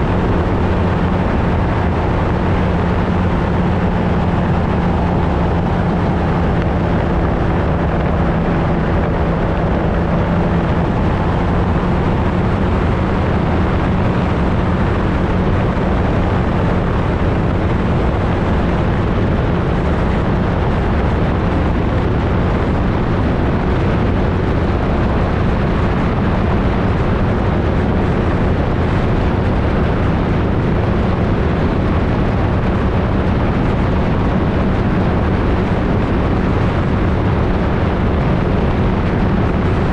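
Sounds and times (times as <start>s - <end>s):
ultralight engine and propeller: 0.0s - 39.9s
wind on microphone: 0.0s - 39.9s.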